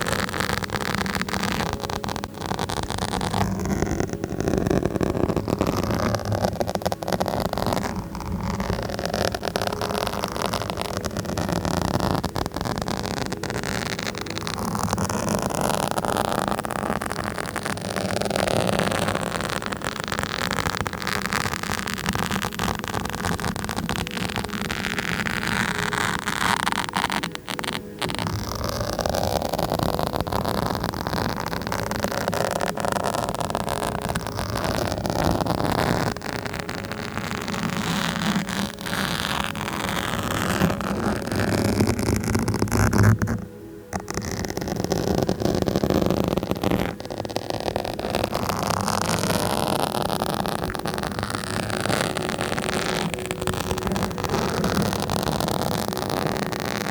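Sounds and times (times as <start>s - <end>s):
microphone being scratched: 0.0s - 56.9s.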